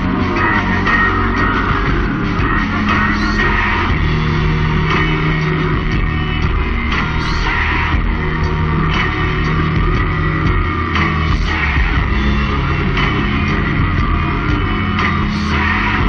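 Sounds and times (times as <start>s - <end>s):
loud rock music with guitar: 0.0s - 16.0s.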